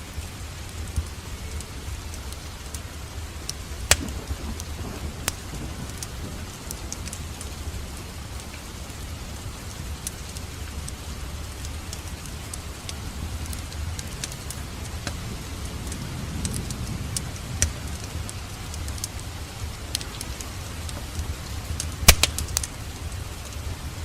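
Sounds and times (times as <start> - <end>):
low rumble of flames: 0.0 - 24.0
wood fire crackling and popping: 0.1 - 24.0.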